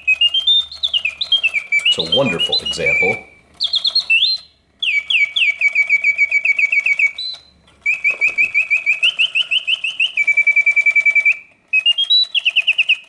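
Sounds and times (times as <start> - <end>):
clockwork clicking: 0.0 - 13.0
mechanical bird whistle chirping: 0.0 - 13.0.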